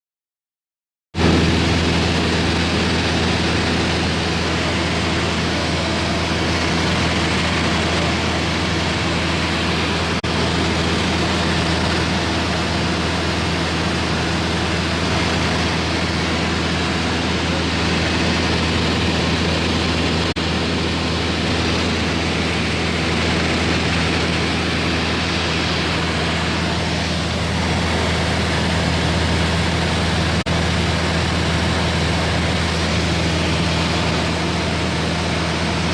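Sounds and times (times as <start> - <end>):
airplane engine drone: 1.2 - 35.9.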